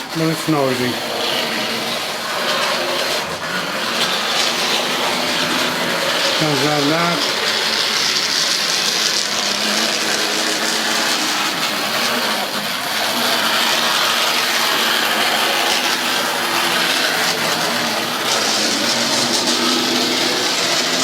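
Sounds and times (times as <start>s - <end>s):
model train motor whirring: 0.0s - 21.0s.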